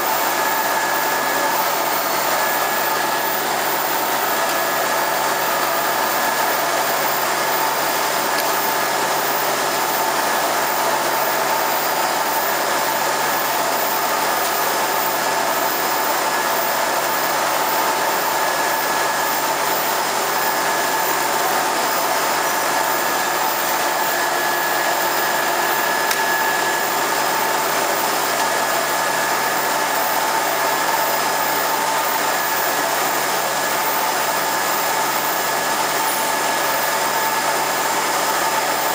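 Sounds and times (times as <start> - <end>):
machine blowers and motors whirring: 0.0 - 38.9.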